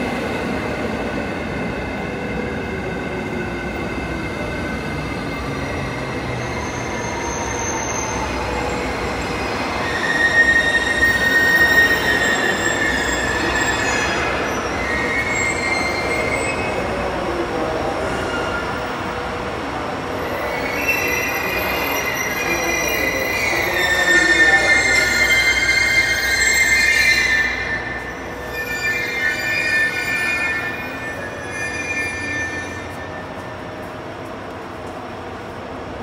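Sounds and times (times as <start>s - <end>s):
high wheel squeal: 1.4s - 17.1s, 20.2s - 33.4s.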